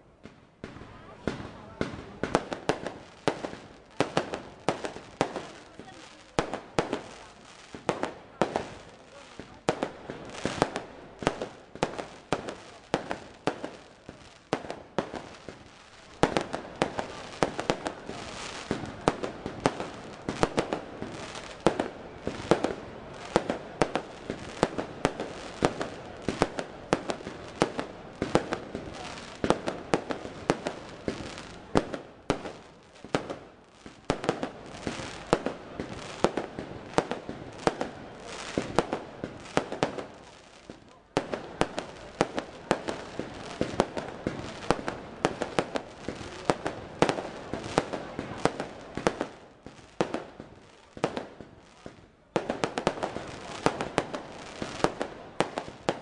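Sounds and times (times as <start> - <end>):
fireworks bangs: 0.2 - 56.0.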